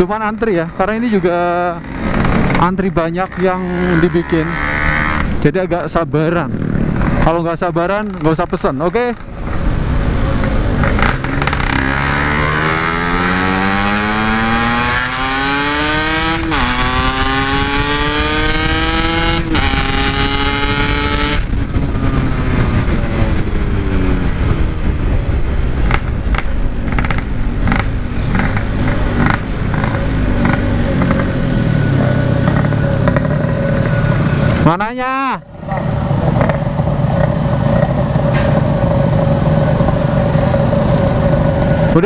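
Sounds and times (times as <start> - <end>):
motorcycle engine accelerating: 0.0 - 34.8, 35.4 - 42.0.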